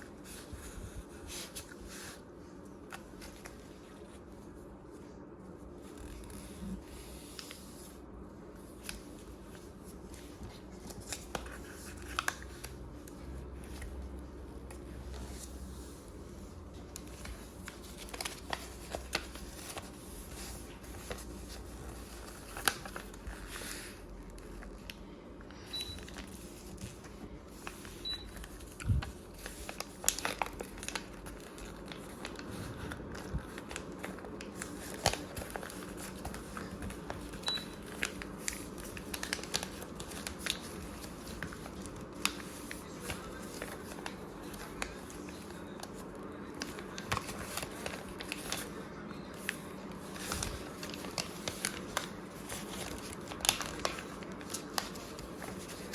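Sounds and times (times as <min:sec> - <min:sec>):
paper folding and crinkling: 0:00.0 - 0:55.9.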